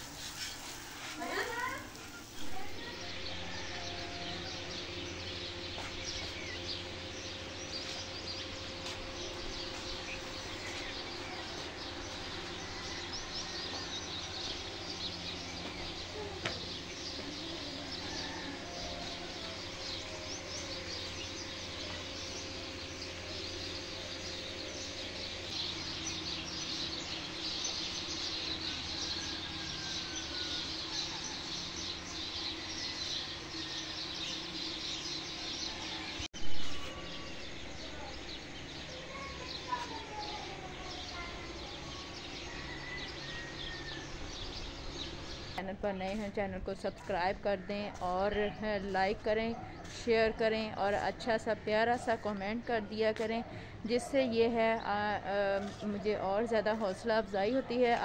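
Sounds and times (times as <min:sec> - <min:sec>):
low steady hum: 0:00.0 - 0:58.0
small birds chirping: 0:00.0 - 0:58.0.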